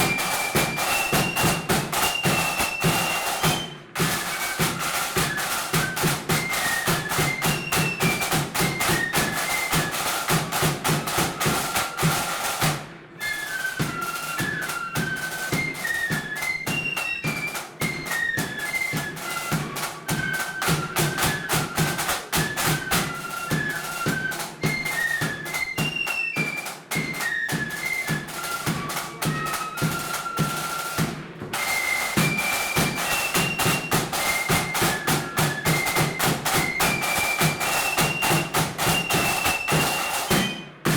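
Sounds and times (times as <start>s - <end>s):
flutes playing high melody: 0.0s - 40.9s
rapid side drumming: 0.0s - 40.9s.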